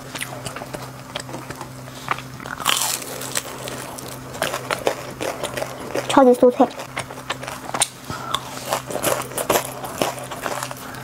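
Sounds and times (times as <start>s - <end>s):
crispy fried food crunching: 0.0s - 11.0s.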